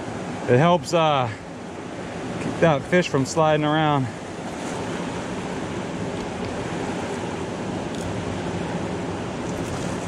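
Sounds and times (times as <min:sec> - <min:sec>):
mountain river rushing: 0:00.0 - 0:10.0.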